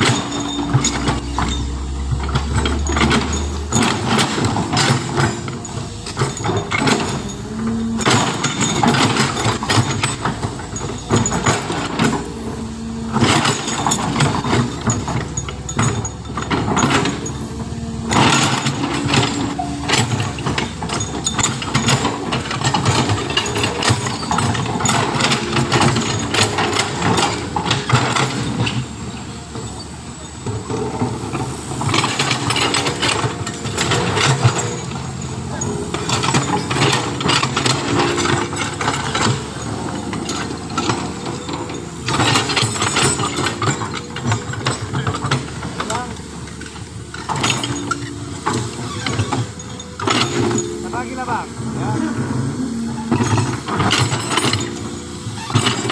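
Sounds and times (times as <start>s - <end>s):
heavy diesel machinery running: 0.0s - 55.9s
sharp metallic clanks: 0.0s - 55.9s.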